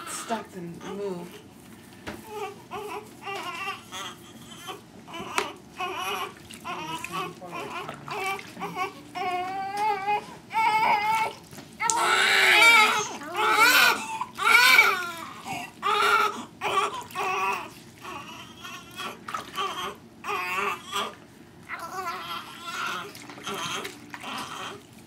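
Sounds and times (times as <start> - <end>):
newborn baby crying: 0.0 - 1.4, 2.2 - 24.8.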